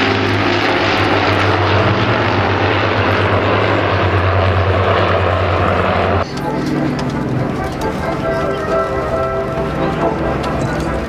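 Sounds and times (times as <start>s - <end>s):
propeller plane drone: 0.0s - 11.0s.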